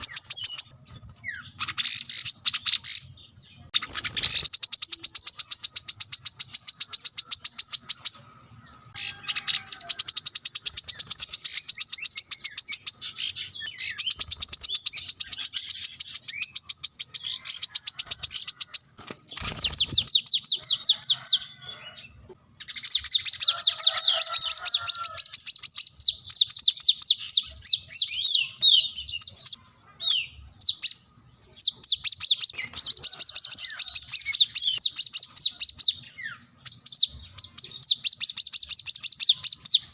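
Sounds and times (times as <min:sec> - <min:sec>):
bird singing rapid high trills: 0:00.0 - 0:39.9.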